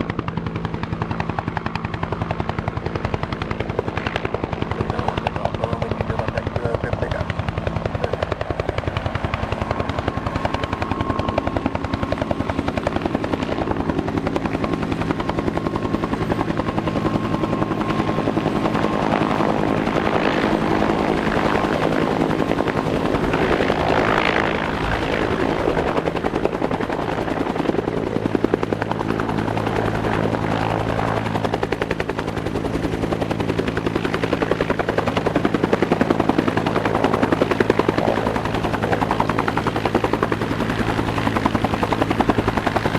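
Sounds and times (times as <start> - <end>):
helicopter engine drone: 0.0 - 42.9
helicopter rotor beating: 0.0 - 42.9.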